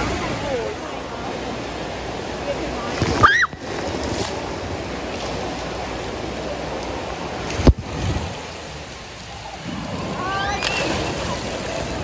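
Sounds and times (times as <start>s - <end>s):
water rushing and sloshing: 0.0s - 12.0s.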